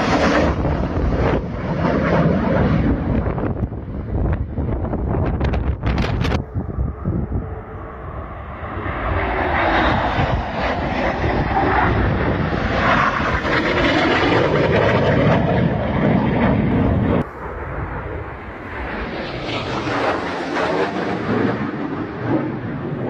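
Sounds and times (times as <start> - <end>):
jet roaring past: 0.0 - 23.0
wind buffeting microphone: 0.0 - 23.0.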